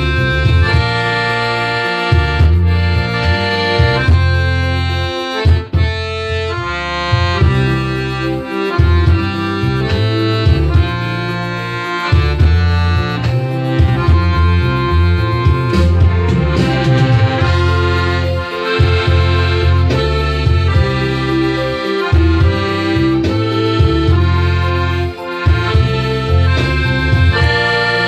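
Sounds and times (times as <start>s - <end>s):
accordion playing a tune: 0.0s - 28.0s.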